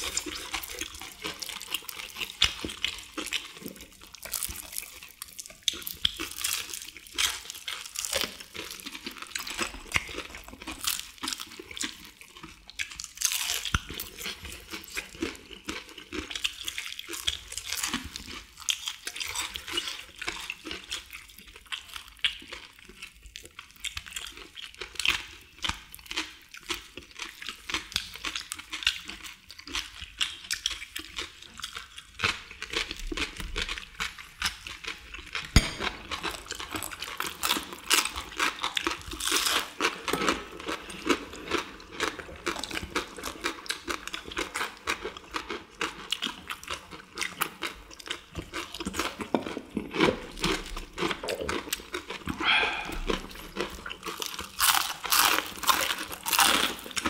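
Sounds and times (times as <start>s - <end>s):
crunching fried chicken: 0.0s - 57.0s.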